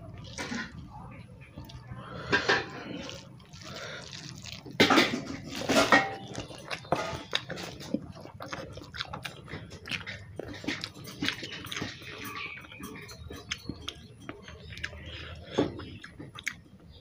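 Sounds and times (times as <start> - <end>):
chewing: 0.0 - 17.0
fingers mixing wet food: 0.0 - 17.0.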